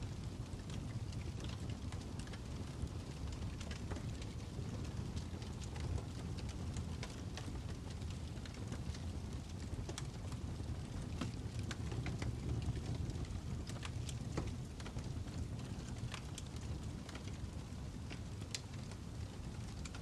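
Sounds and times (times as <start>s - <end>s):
fire crackling with pops: 0.0s - 20.0s.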